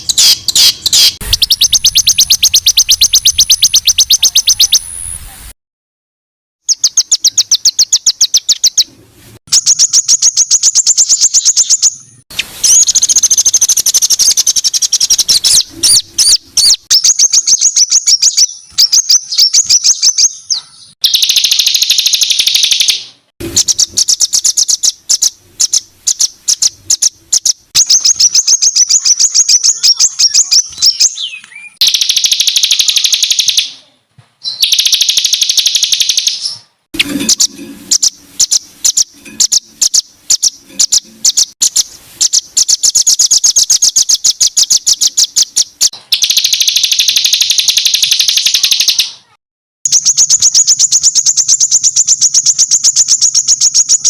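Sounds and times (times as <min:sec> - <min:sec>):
songbird rattling trills: 0:00.0 - 0:04.8, 0:12.6 - 0:33.7, 0:34.6 - 0:49.1, 0:49.9 - 0:54.0.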